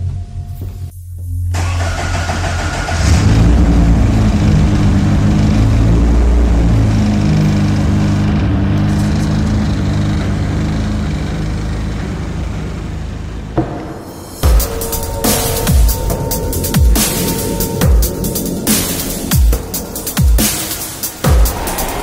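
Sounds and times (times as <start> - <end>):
car engine starting and running: 0.0 - 22.0.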